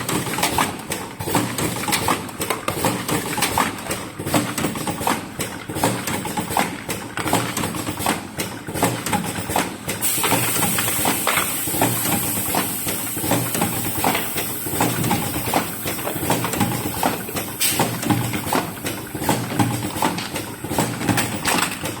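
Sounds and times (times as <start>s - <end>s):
machine clacking and knocking: 0.0s - 22.0s.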